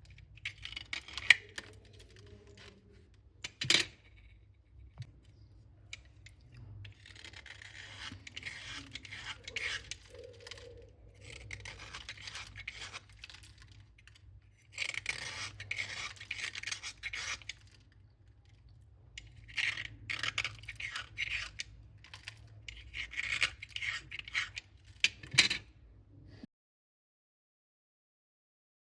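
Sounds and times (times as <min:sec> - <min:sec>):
slate pencil scraping and crackling: 0:00.0 - 0:25.6.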